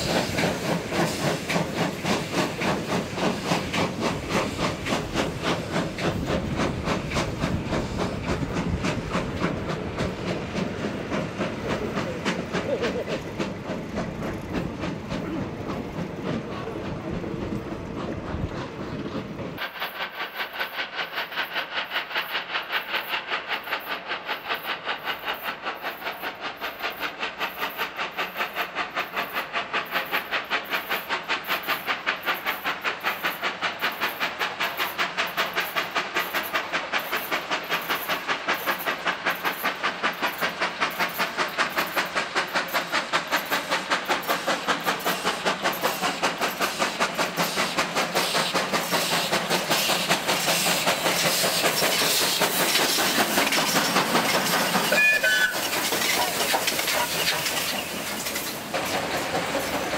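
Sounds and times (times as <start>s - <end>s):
steam hiss: 0.0s - 59.9s
steam locomotive chuffing: 0.0s - 59.9s.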